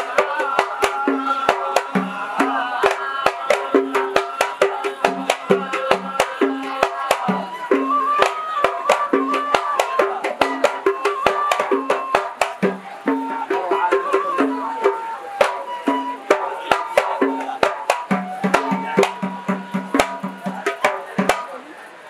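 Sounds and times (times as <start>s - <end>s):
men singing: 0.0s - 21.3s
hand drum strikes: 0.0s - 21.6s
deep drum tones: 0.2s - 21.6s.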